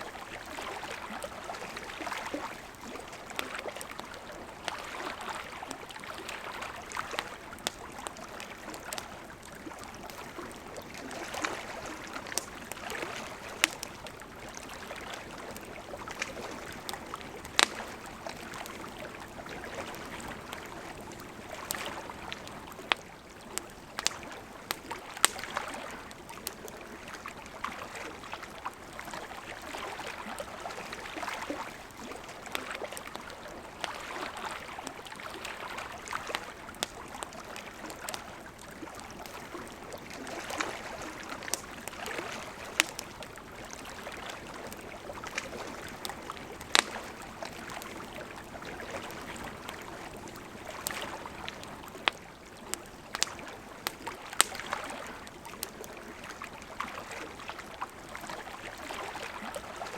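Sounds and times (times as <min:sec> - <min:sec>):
campfire crackling and popping: 0:00.0 - 0:59.9
small waves lapping at shore: 0:00.0 - 0:59.9.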